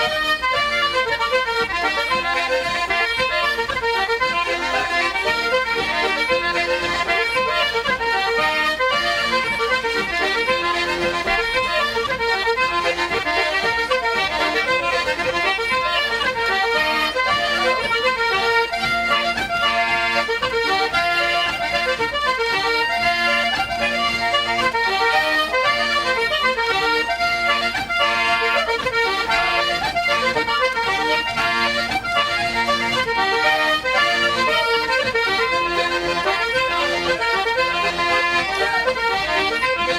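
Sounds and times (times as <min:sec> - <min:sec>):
lively irish traditional music: 0:00.0 - 0:39.9.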